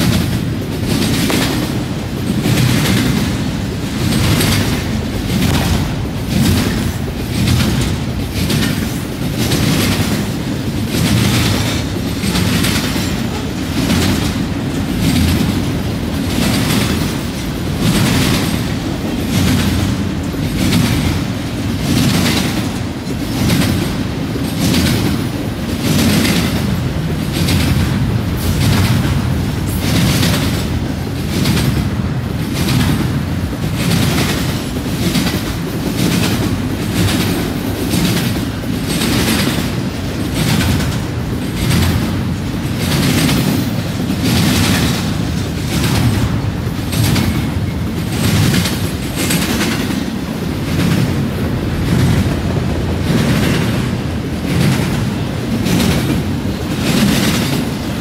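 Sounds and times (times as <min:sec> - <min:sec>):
freight train rumble: 0:00.0 - 0:58.0
wheel clacks on track: 0:00.0 - 0:58.0.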